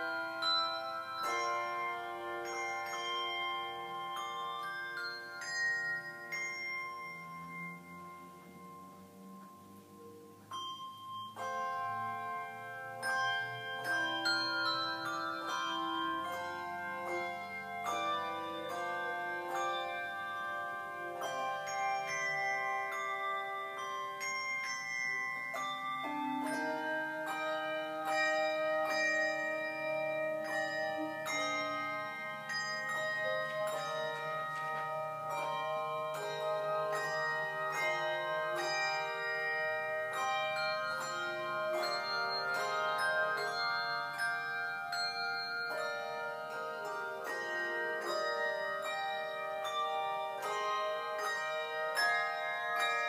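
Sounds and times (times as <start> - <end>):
handbell choir ringing: 0.0 - 53.0.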